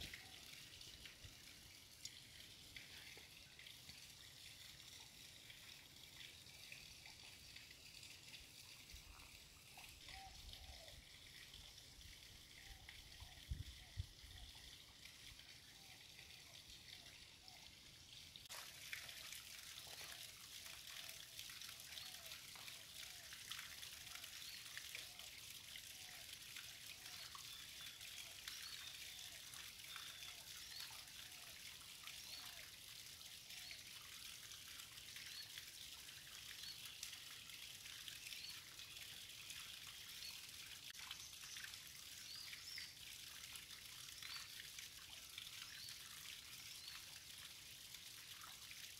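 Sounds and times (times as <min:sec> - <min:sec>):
stream water trickling: 0:00.0 - 0:48.9.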